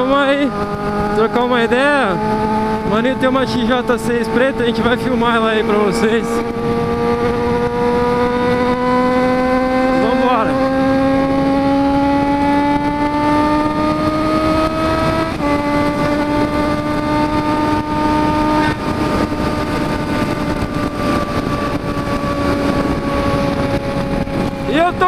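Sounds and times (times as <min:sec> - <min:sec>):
motorcycle engine accelerating: 0:00.0 - 0:25.0
wind on microphone: 0:00.0 - 0:25.0.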